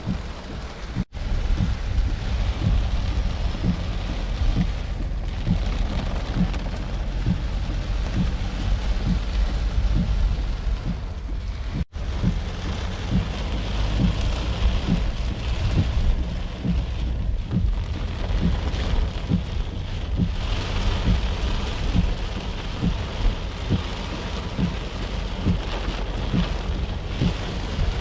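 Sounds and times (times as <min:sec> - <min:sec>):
continuous low rumble: 0:00.0 - 0:28.0
short low thuds: 0:00.0 - 0:28.0.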